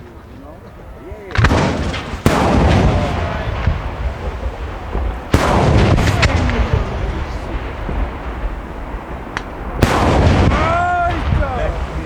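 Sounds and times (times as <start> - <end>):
rolling rumble of firework bursts: 0.0 - 12.0
firework blast: 1.3 - 12.0.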